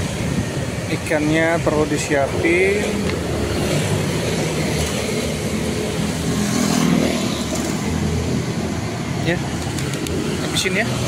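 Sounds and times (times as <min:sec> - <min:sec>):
road traffic noise: 0:00.0 - 0:11.0
vehicle passing: 0:01.1 - 0:11.0.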